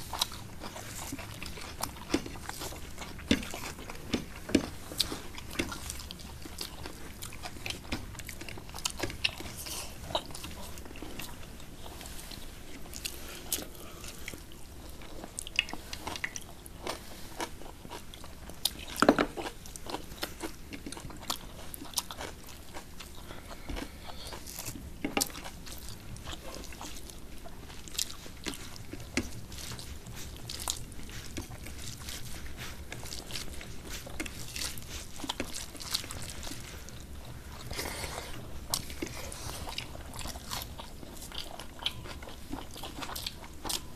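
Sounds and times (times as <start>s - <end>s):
chewing and mouth clicks: 0.0s - 43.9s
fingers mixing food on plates: 0.0s - 43.9s.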